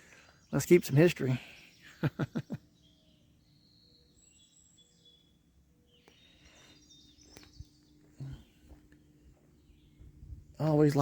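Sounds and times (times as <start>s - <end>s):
faint distant bird chirps: 0.0s - 11.0s.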